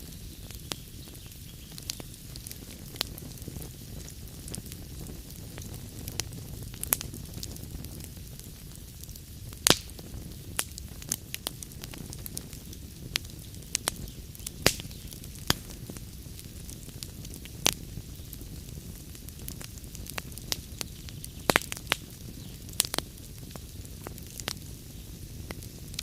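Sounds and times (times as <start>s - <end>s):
log fire crackling: 0.0s - 26.0s
sharp pops and snaps of fire: 0.0s - 26.0s.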